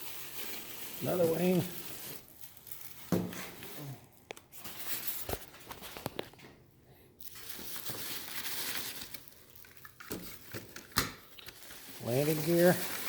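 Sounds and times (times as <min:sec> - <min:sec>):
plastic and cardboard crinkling: 0:00.0 - 0:13.0.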